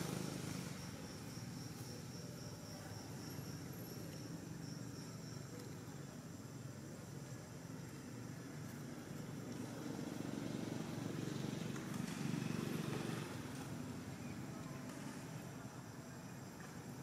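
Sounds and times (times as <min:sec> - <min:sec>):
distant vehicle rumble: 0:00.0 - 0:06.4, 0:07.0 - 0:17.0.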